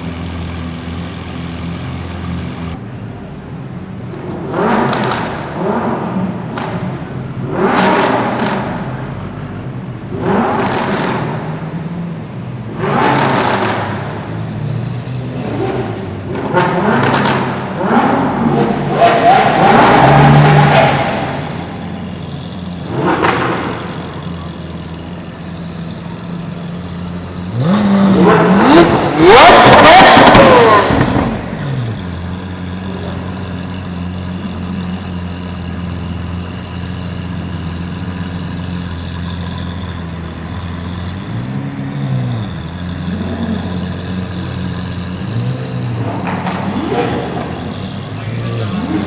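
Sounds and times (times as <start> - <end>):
car engines idling: 0.0 - 49.0
engine revving hard: 4.3 - 12.0, 12.6 - 26.3, 27.2 - 49.0.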